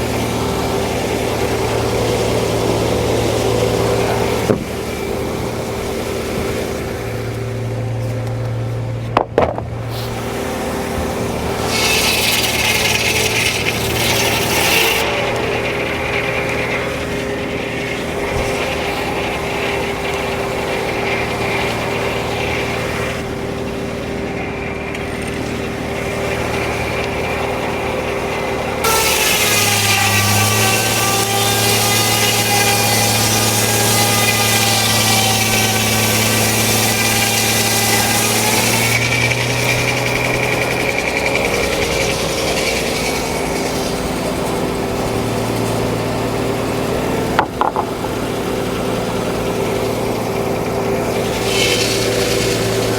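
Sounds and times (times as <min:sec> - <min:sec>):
circular saw blade cutting log: 0:00.0 - 0:52.9
power unit engine: 0:00.0 - 0:52.9.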